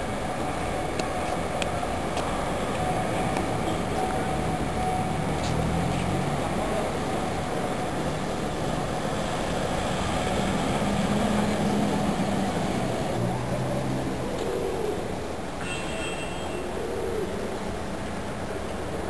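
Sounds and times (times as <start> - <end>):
rumble of vehicle traffic: 0.0 - 19.0.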